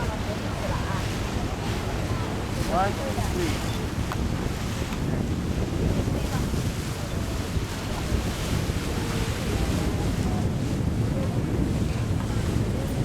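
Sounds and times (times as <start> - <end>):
boat noise: 0.0 - 13.0
rush of water: 0.0 - 13.0
wind buffeting microphone: 0.0 - 13.0.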